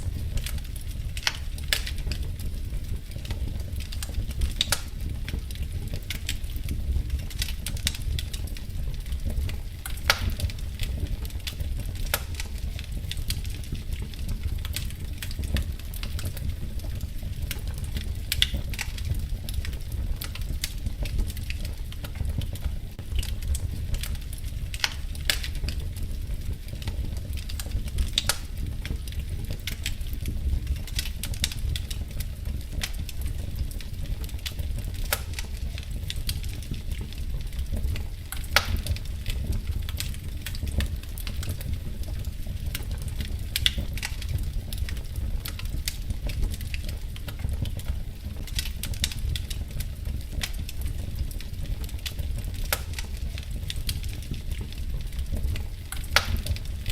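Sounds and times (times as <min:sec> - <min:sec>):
fire crackles and pops: 0:00.0 - 0:56.9
fire low rumble: 0:00.0 - 0:56.9.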